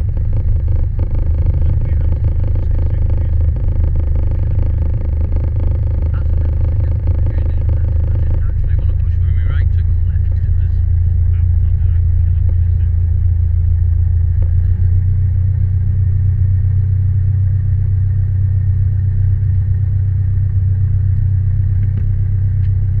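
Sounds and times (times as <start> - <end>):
propeller aircraft engine drone: 0.0 - 23.0.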